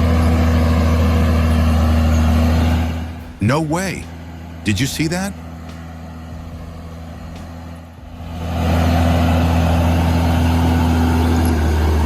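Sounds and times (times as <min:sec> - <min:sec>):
heavy machine diesel engine: 0:00.0 - 0:12.0.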